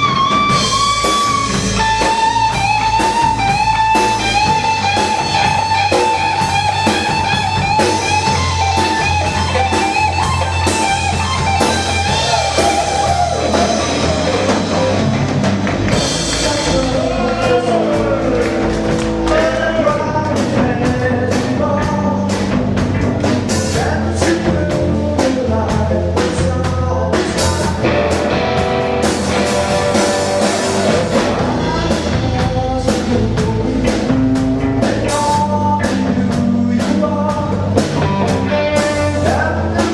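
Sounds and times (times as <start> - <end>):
person singing: 0.0 - 15.1, 15.9 - 22.6, 23.5 - 28.5, 29.4 - 39.9
bass and drum kit: 0.0 - 39.9
electric guitar lead: 0.0 - 39.9.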